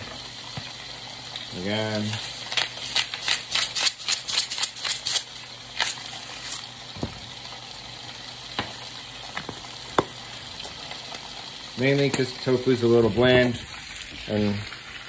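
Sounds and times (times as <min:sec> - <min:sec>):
tofu sizzling in a wok: 0:00.0 - 0:15.0.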